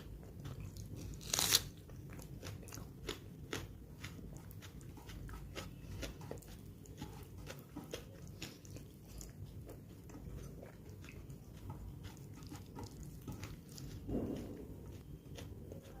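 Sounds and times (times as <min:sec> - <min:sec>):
chewing and biting food: 0:00.0 - 0:16.0.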